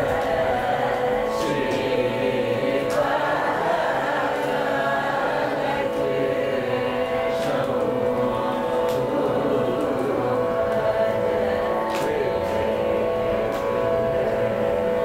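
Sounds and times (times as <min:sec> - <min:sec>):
soft hand claps: 0:00.0 - 0:14.5
group singing in unison: 0:00.0 - 0:15.0.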